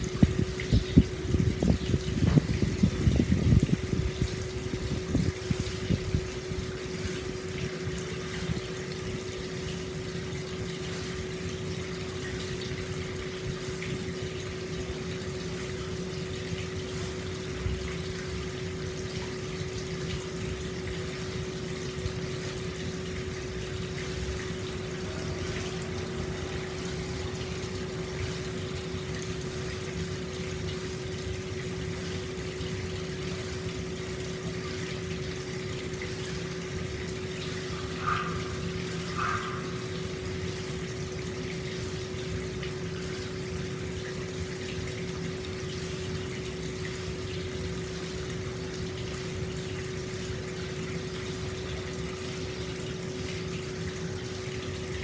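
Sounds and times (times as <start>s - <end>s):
steady hum: 0.0s - 55.0s
water flowing into bath: 0.0s - 55.0s.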